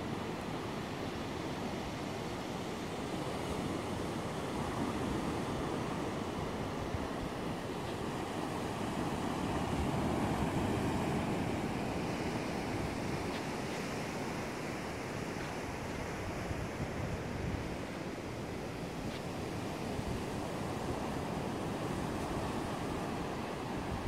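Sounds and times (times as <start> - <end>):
ocean surf washing: 0.0 - 24.0.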